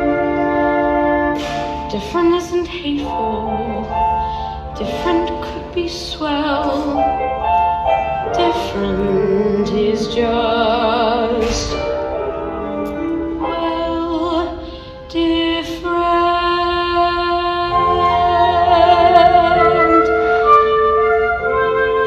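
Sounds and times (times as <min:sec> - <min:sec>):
flute-like woodwind melody: 0:00.0 - 0:15.1, 0:15.7 - 0:22.0
held accompaniment chords: 0:00.0 - 0:22.0.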